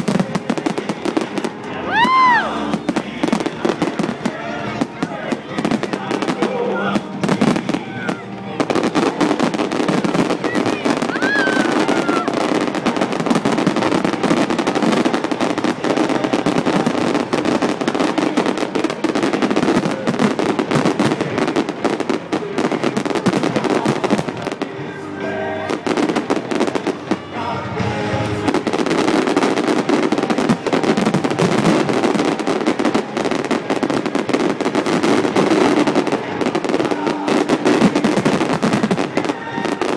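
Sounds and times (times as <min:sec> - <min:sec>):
fireworks bangs and crackling: 0:00.0 - 0:39.9
music playing: 0:00.0 - 0:39.9.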